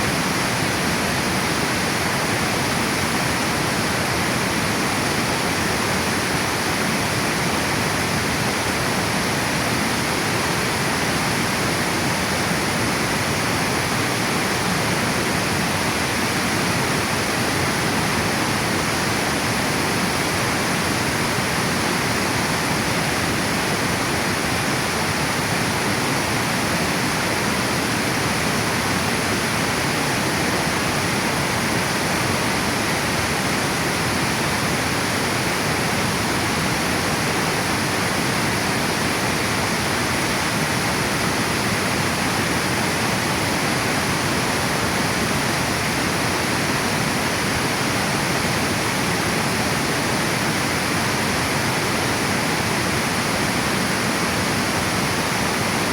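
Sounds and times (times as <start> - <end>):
water rushing over dam spillway: 0.0 - 55.9.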